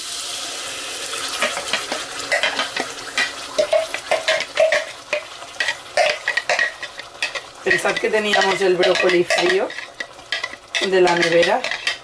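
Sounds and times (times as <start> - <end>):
sauce sizzling in a pot: 0.0 - 12.0
scrapes and knocks in a pan: 1.4 - 12.0.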